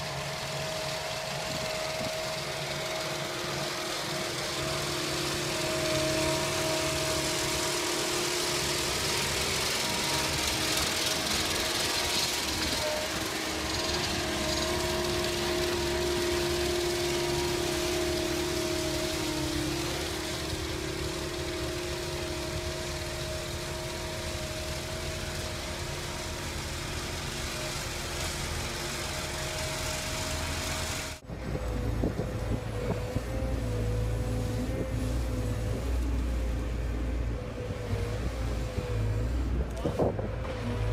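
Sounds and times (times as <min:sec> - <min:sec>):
machine engine running: 0:00.0 - 0:40.9.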